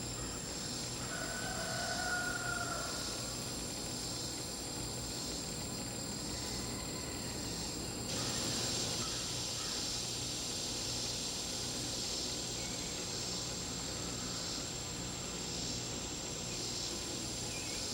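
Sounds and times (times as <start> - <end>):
insects trilling: 0.0 - 17.9.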